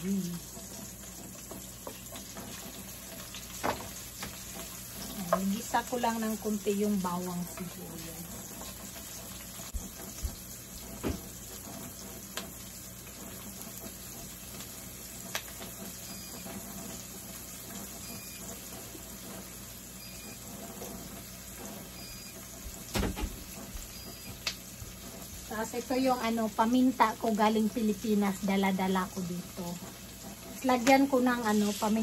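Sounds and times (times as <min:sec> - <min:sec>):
onion and garlic sizzling: 0:00.0 - 0:32.0.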